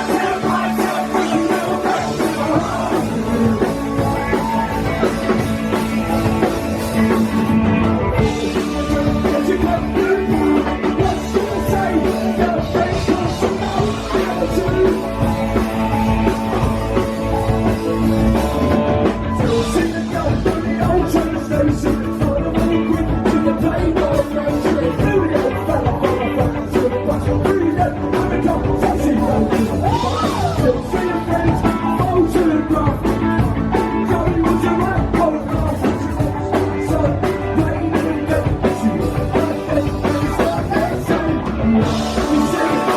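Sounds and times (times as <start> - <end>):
live rock band playing: 0.0 - 42.9
person singing: 0.0 - 42.9.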